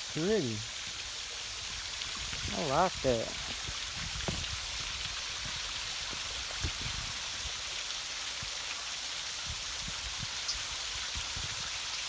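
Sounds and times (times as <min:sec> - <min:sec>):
rushing creek water: 0:00.0 - 0:12.0.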